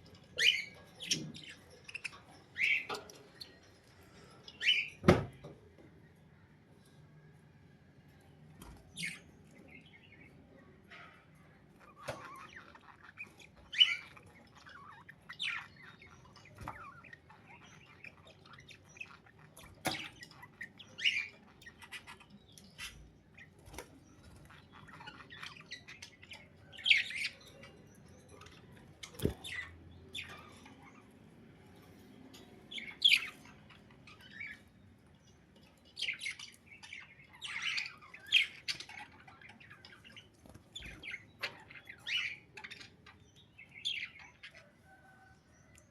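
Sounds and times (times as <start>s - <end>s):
budgerigars chirping and squawking: 0.0s - 5.3s, 8.6s - 45.9s.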